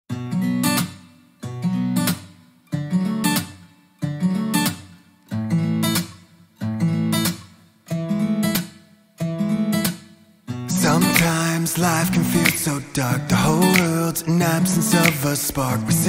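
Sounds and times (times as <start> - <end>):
acoustic guitar strumming chords: 0.1 - 16.0.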